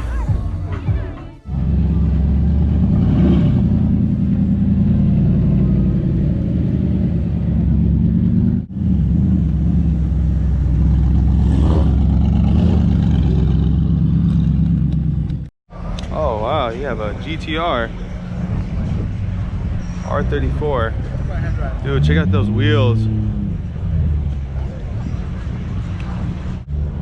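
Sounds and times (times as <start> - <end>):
car engine running at low revs: 0.0 - 16.1, 17.0 - 27.0.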